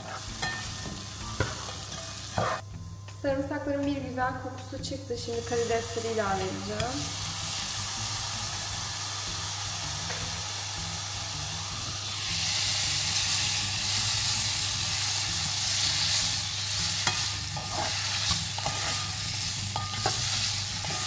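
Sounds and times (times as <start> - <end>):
garlic sizzling in butter: 0.0 - 2.6, 5.2 - 21.0.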